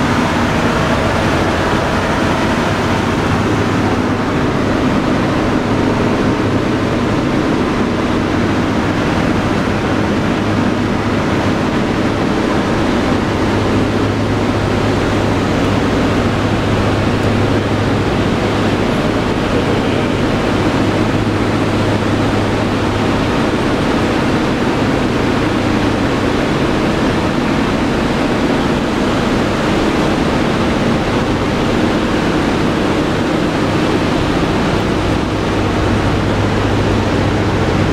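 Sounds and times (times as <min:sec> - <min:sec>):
aircraft radial engines droning: 0:00.0 - 0:37.9
low hum: 0:00.0 - 0:37.9.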